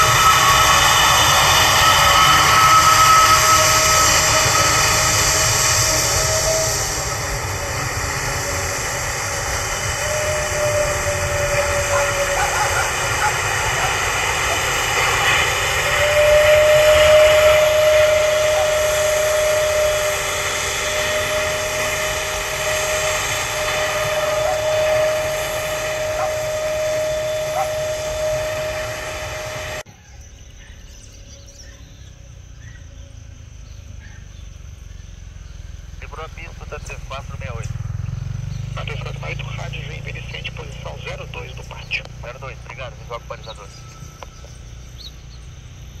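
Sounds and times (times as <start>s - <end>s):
jet engines rumbling and whining: 0.0s - 46.0s.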